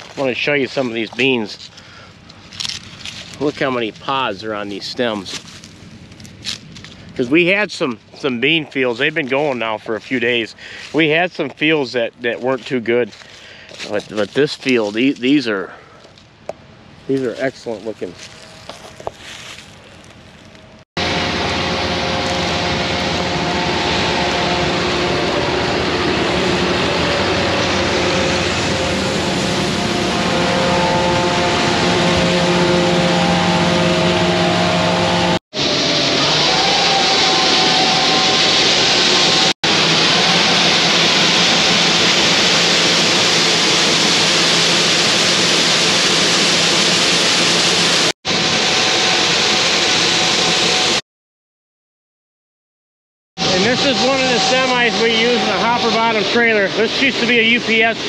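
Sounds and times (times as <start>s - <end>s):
tractor diesel engine running: 0.0s - 50.9s, 53.4s - 58.0s.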